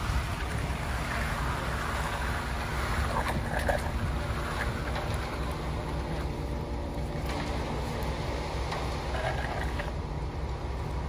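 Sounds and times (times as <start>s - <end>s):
concrete mixer truck engine drone: 0.0s - 11.0s
float scraping wet concrete: 0.0s - 11.0s.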